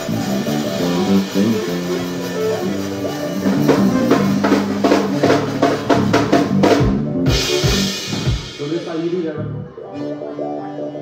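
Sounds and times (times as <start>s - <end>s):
accordion notes: 0.0s - 11.0s
live band playing: 0.0s - 11.0s.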